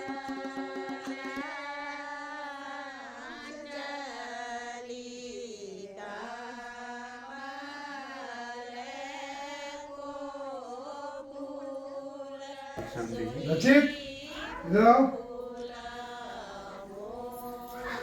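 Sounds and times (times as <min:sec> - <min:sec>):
slow devotional chant singing: 0:00.0 - 0:18.0.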